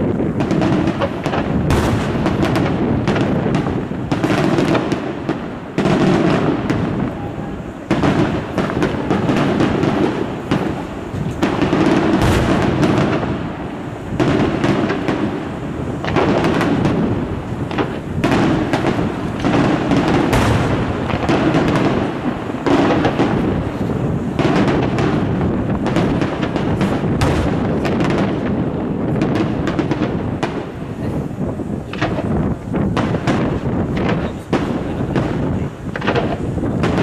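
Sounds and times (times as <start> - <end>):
crackling firework stars: 0.0 - 37.0
firework shells bursting: 0.0 - 37.0.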